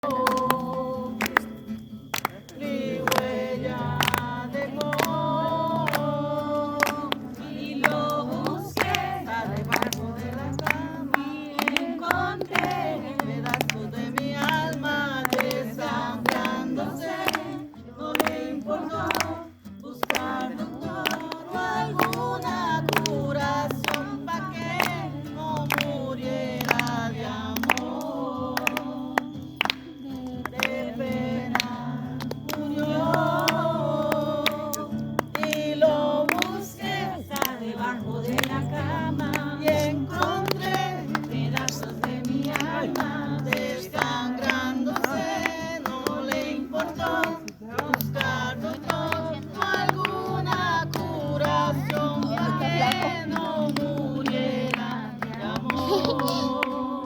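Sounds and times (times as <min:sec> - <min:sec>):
voices singing: 0:00.0 - 0:57.0.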